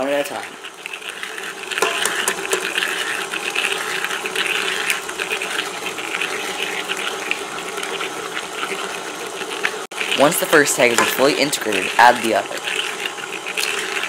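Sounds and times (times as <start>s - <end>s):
stand mixer running: 0.0s - 14.0s.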